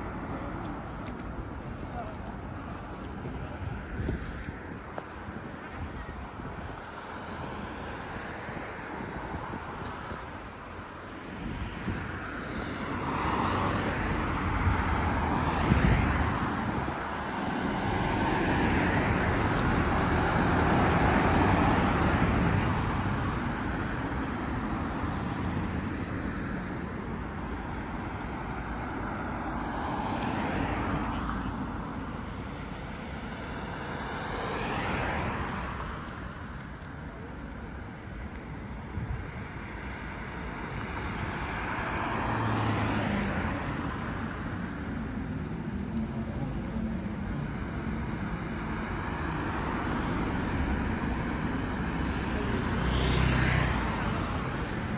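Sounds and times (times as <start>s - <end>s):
vehicles passing: 0.0s - 54.9s.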